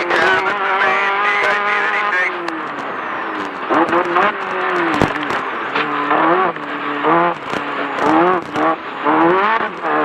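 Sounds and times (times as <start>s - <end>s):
race car engine revving: 0.0s - 10.0s.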